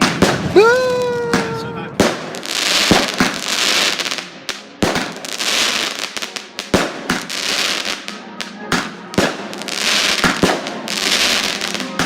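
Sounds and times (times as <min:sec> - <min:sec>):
fireworks bangs: 0:00.0 - 0:12.0
fireworks crackling hiss: 0:00.0 - 0:12.0.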